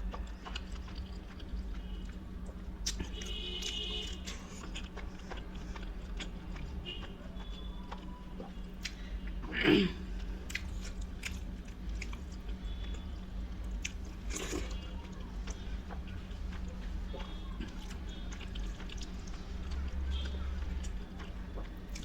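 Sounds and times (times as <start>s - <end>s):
chewing with wet mouth smacks: 0.0s - 22.0s
steady low hum: 0.0s - 22.0s.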